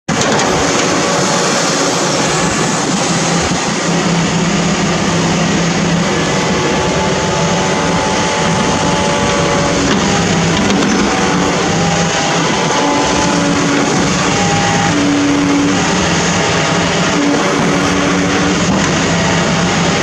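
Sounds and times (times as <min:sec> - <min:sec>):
diesel engine and hydraulics running: 0:00.1 - 0:20.0.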